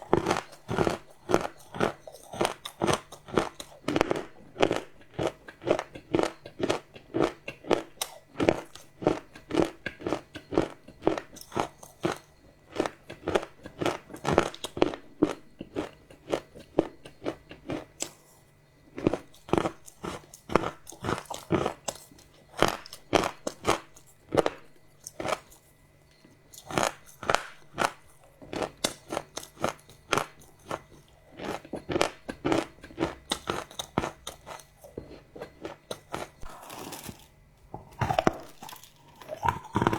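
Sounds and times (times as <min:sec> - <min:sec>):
chewing crunchy chocolate: 0:00.0 - 0:39.9.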